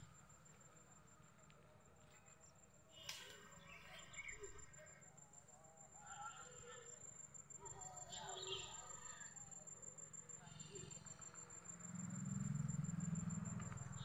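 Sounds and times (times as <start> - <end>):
faint distant voices: 0.4 - 11.6.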